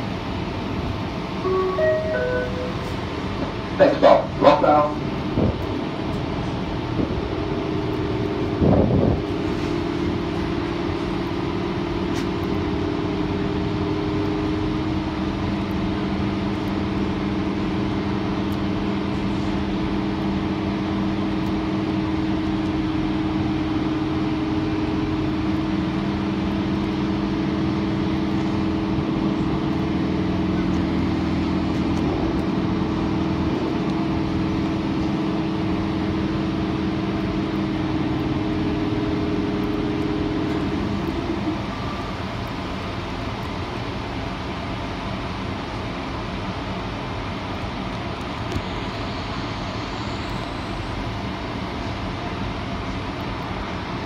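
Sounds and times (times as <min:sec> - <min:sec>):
electric train motor hum: 0:00.0 - 0:54.0
wheels rumbling on track: 0:00.0 - 0:54.0.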